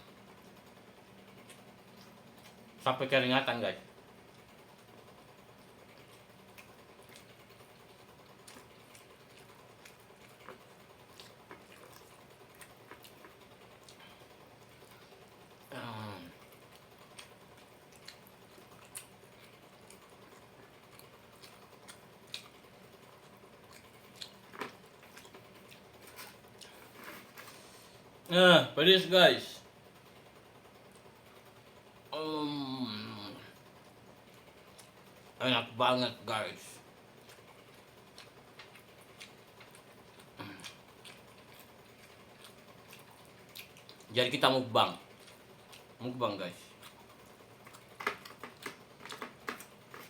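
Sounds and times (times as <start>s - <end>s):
mouth chewing crispy food: 0.3s - 2.8s, 4.2s - 28.1s, 34.0s - 35.4s, 36.8s - 50.0s.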